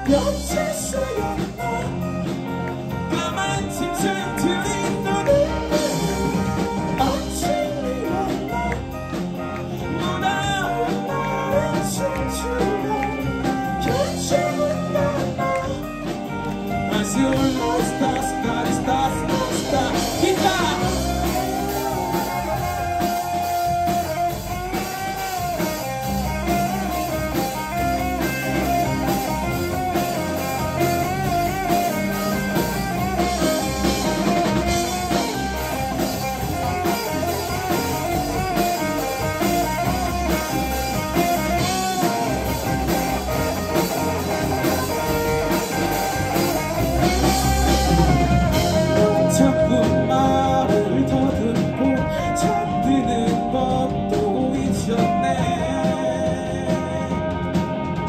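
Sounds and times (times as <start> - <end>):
lead guitar with bent notes: 0.0 - 58.0
live rock band playing: 0.0 - 58.0.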